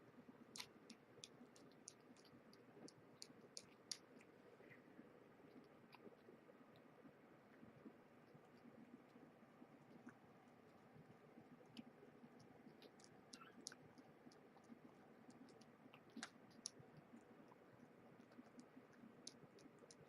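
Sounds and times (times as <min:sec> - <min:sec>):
kittens eating and lapping: 0:00.0 - 0:20.0.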